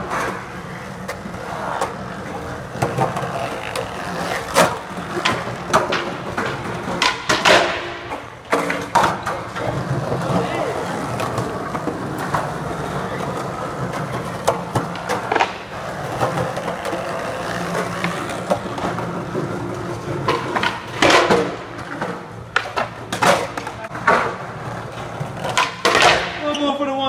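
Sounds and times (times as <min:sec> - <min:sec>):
skateboard clacks: 0:00.0 - 0:26.4
skateboard wheels rolling: 0:00.0 - 0:26.8.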